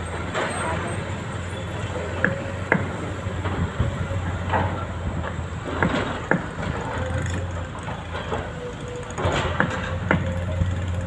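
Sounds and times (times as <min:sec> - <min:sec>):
heavy machinery diesel engines: 0:00.0 - 0:11.0
sharp knocks and clanks: 0:02.1 - 0:11.0.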